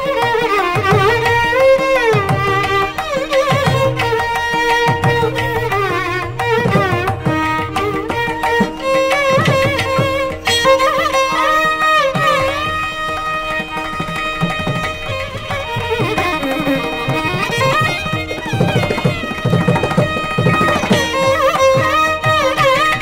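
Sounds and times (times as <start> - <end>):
violin with sliding ornaments: 0.0 - 23.0.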